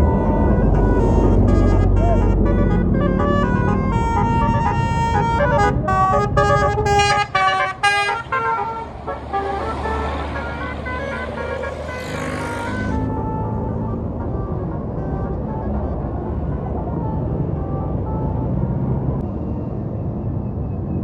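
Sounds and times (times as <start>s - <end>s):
musical bus horn tune: 0.0s - 19.2s
tyres passing: 0.0s - 19.2s
bus engine running: 0.0s - 21.0s.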